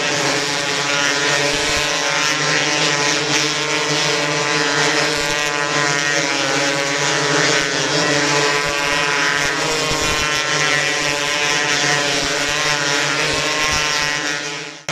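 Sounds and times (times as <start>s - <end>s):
sprint car engines: 0.0s - 14.9s.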